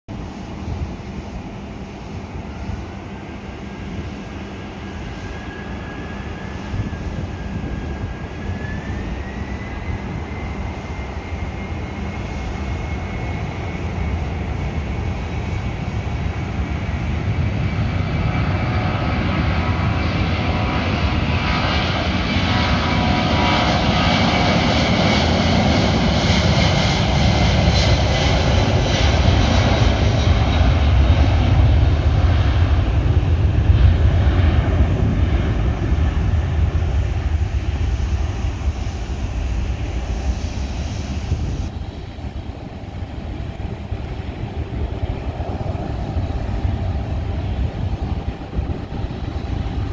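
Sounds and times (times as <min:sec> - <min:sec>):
jet engines spooling up: 0:00.2 - 0:49.9.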